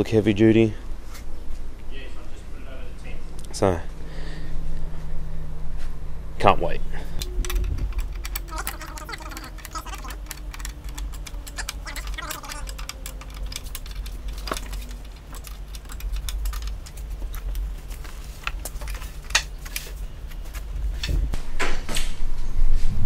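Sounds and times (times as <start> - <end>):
low steady hum: 0.3 - 22.7.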